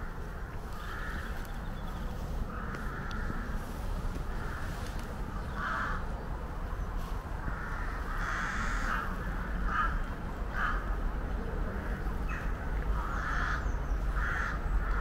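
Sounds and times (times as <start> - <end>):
crows cawing: 0.0 - 6.1, 7.4 - 11.1, 11.7 - 15.0
low steady rumble: 0.0 - 15.0.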